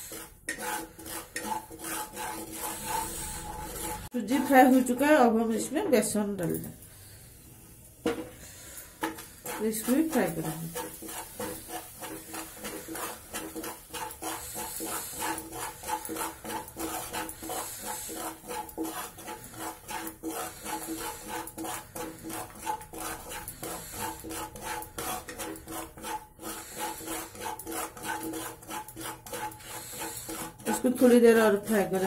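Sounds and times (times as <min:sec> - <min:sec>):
wooden spatula scraping a pan: 0:00.0 - 0:32.0.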